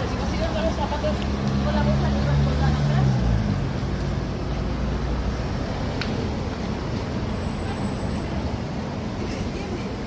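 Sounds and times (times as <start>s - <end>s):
rush of passing traffic: 0.0s - 10.0s.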